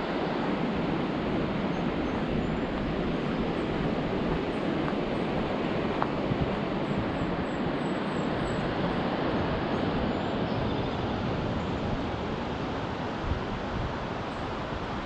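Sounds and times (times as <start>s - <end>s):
ocean surf roaring: 0.0s - 15.0s.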